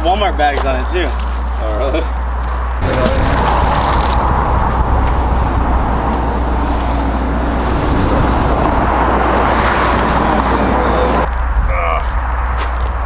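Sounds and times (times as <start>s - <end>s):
passing road traffic: 0.6s - 13.0s.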